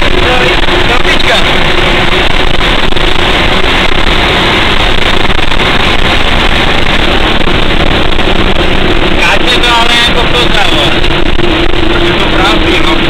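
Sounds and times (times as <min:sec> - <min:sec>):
road noise: 0:00.0 - 0:13.0
truck engine running: 0:00.0 - 0:13.0.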